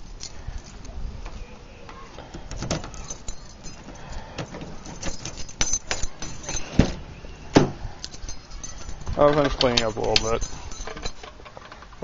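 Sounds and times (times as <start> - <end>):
car keys jingling: 0.0 - 0.9, 2.3 - 11.5.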